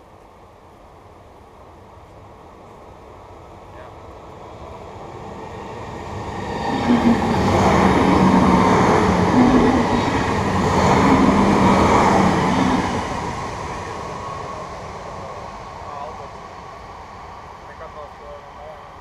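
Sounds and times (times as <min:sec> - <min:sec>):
train wheels on rails: 0:03.8 - 0:19.0.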